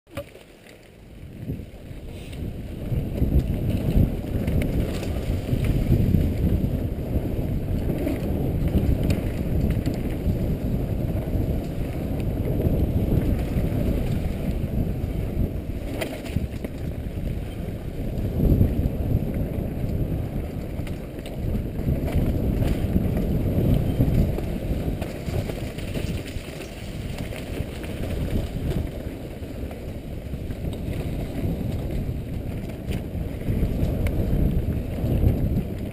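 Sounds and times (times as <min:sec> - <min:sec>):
bike rumbling and rattling: 0:00.1 - 0:35.9
wind buffeting microphone: 0:01.0 - 0:35.9.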